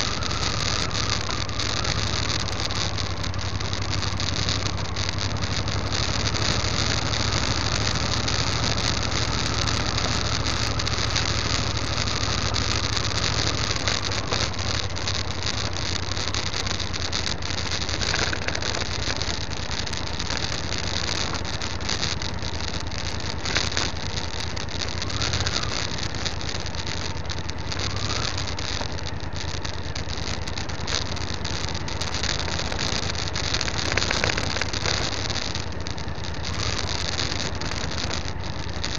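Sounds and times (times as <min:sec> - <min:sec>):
motorcycle engine cruising: 0:00.0 - 0:38.9
tyres ticking on loose stones: 0:00.0 - 0:38.9.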